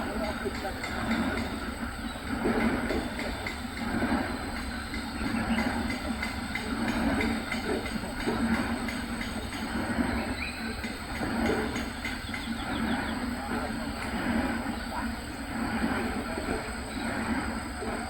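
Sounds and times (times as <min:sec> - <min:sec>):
mechanical rumble with rattling: 0:00.0 - 0:18.0.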